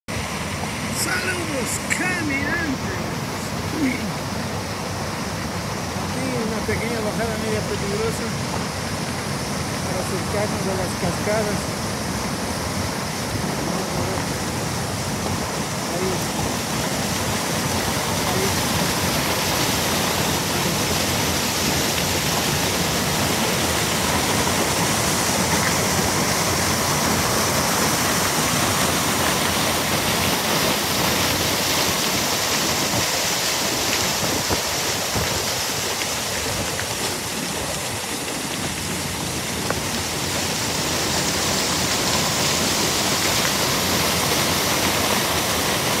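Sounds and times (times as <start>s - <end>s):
waterfall rushing: 0.1s - 46.0s.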